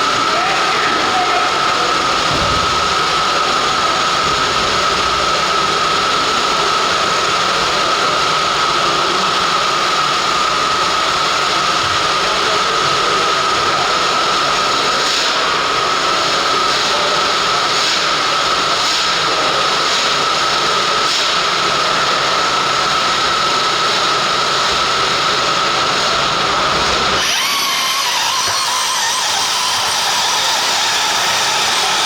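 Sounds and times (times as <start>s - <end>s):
motor high-pitched whine: 0.0s - 32.0s.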